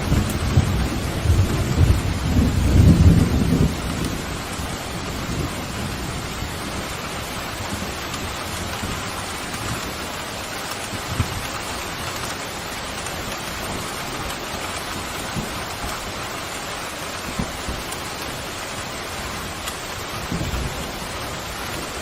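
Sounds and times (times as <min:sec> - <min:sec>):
heavy rain falling: 0:00.0 - 0:22.0
low thunder rumble: 0:00.0 - 0:22.0.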